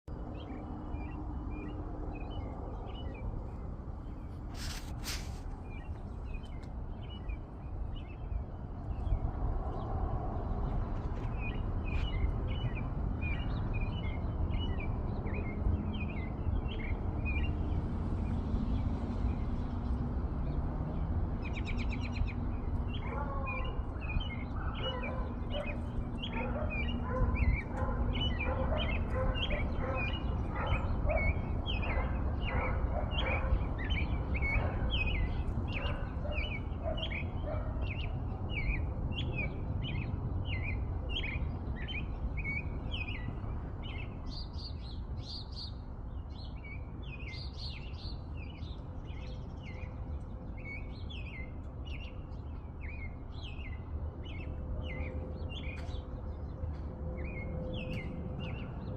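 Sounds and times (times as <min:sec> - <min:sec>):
songbird chirping: 0:00.1 - 0:58.9.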